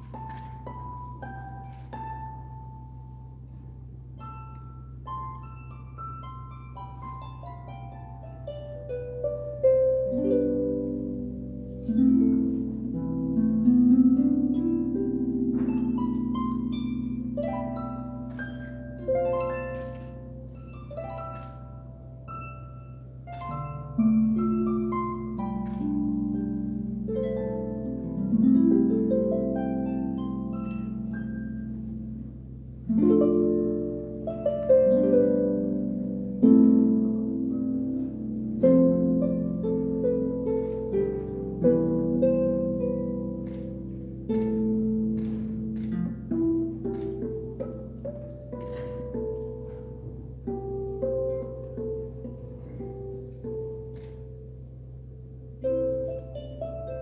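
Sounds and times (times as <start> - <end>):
harp playing: 0.0 - 57.0.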